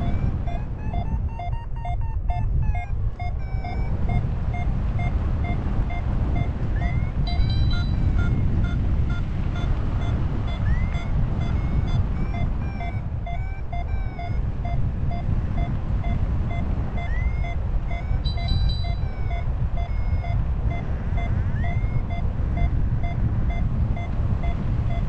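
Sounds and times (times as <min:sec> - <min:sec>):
variometer beeping: 0:00.0 - 0:25.0
wind rushing on microphone: 0:00.0 - 0:25.0.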